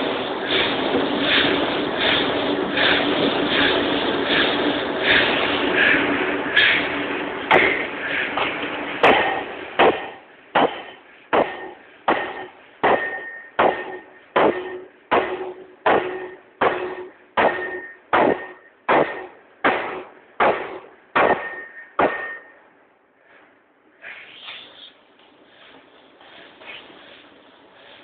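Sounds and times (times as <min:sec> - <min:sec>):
power hammer blows with metallic ring: 0:00.0 - 0:22.8.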